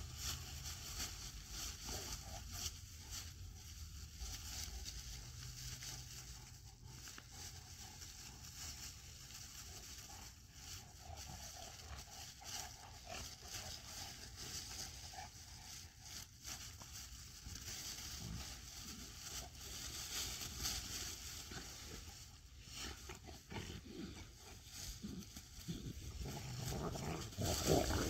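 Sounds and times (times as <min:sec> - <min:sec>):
dogs rustling in dry leaves: 0:00.0 - 0:28.0
dogs scuffling: 0:00.0 - 0:28.0.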